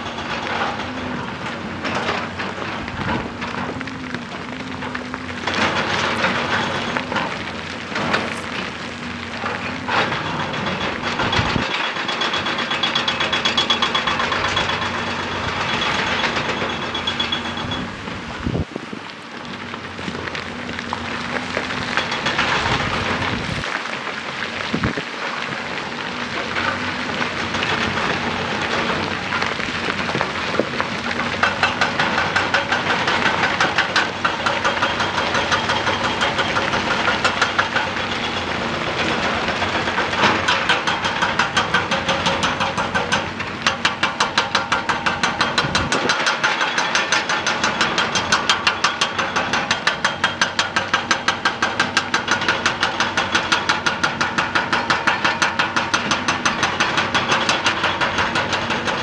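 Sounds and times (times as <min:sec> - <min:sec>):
excavator engine running: 0:00.0 - 0:59.0
hydraulic rock breaker hammering: 0:00.0 - 0:59.0.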